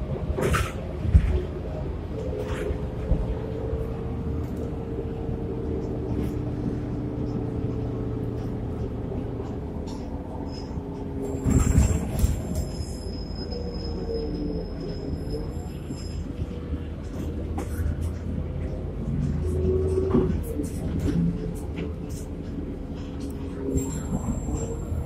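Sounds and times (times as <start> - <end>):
bus drivetrain hum with whine: 0.0 - 25.0
road rumble: 0.0 - 25.0.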